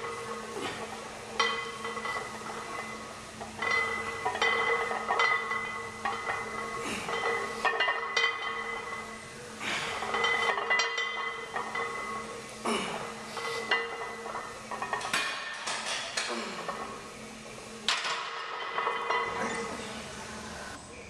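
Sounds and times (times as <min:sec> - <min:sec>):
barbell plates clinking: 0:00.0 - 0:17.2, 0:17.8 - 0:19.7.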